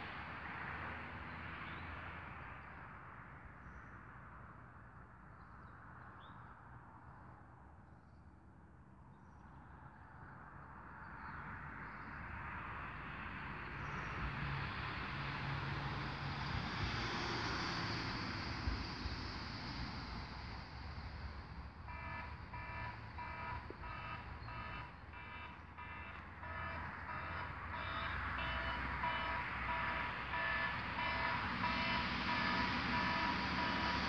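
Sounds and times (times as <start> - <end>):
vehicle engine and tyre noise: 0.0 - 34.0.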